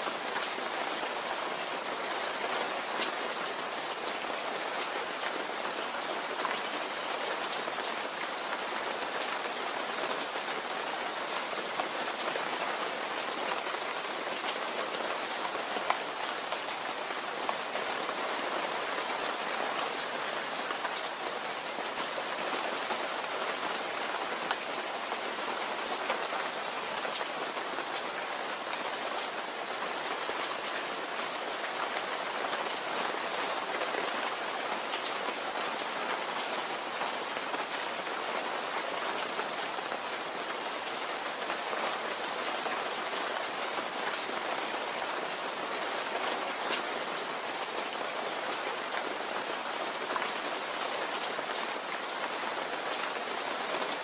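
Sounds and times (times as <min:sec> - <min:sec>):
raindrops pattering nearby: 0:00.0 - 0:54.0
steady rain: 0:00.0 - 0:54.0.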